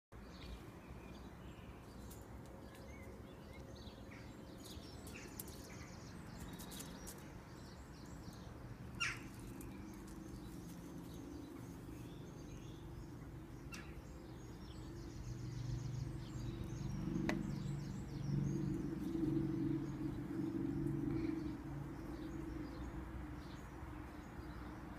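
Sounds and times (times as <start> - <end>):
garden birds chirping: 0.1 - 24.9.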